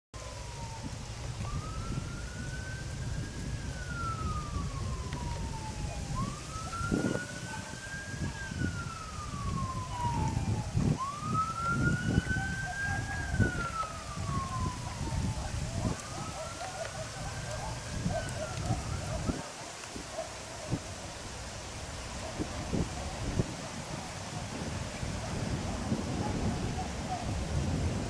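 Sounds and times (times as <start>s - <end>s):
wailing siren: 0.2s - 28.0s.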